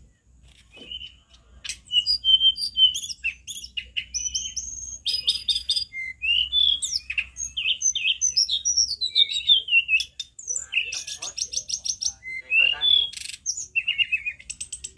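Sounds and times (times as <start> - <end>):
bird singing whistled notes: 0.0 - 14.9.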